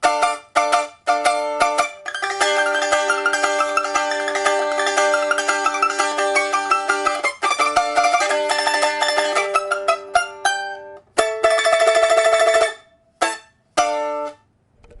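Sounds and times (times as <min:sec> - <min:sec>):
lute tremolo chords: 0:00.0 - 0:15.0
plucked lute notes: 0:00.0 - 0:15.0.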